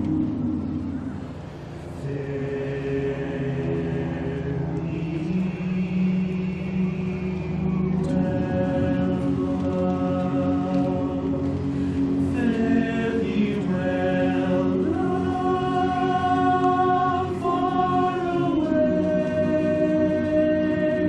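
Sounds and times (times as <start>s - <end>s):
barbershop chorus singing: 1.8s - 21.0s.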